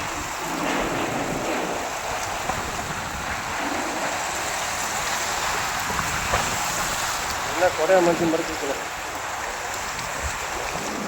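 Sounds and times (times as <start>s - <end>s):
heavy rain falling: 0.0s - 11.0s
running floodwater: 0.0s - 11.0s.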